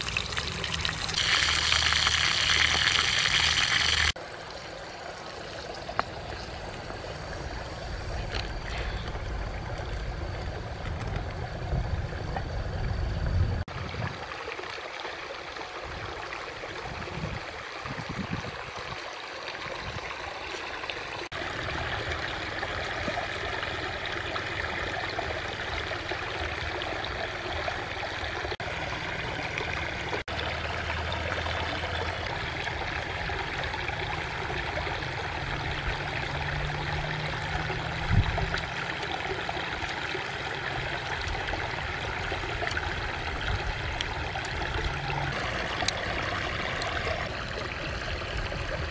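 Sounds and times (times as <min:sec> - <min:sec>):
stream trickling and babbling: 0:00.0 - 0:48.9.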